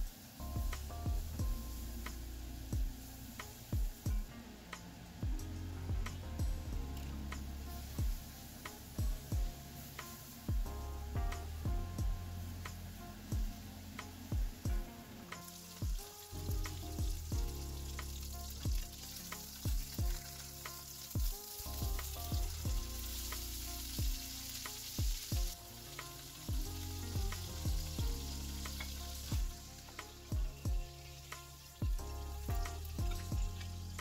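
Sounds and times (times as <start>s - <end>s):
food sizzling in a frying pan: 0.0s - 34.0s
music with kick-drum beat: 0.0s - 34.0s.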